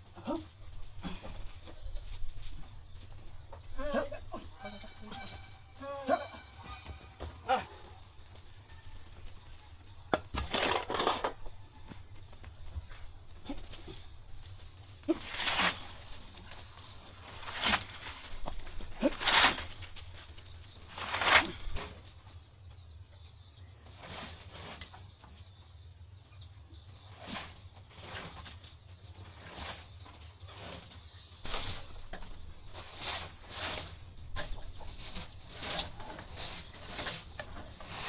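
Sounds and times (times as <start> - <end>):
chickens moving about: 0.0 - 38.0.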